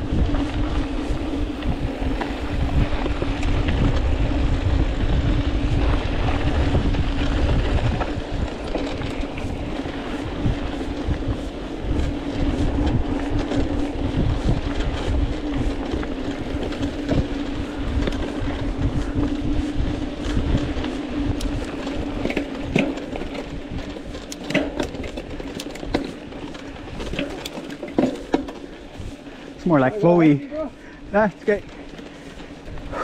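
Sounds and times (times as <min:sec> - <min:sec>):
wind on microphone: 0:00.0 - 0:27.6, 0:32.4 - 0:33.0
bike clicks and rattles: 0:00.0 - 0:33.0
bike tyres rumbling on dirt: 0:00.0 - 0:33.0
constant hum: 0:00.0 - 0:33.0.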